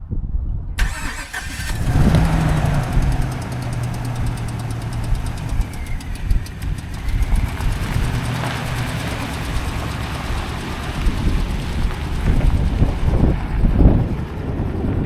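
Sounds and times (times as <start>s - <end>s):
truck engine idling: 0.8s - 15.0s.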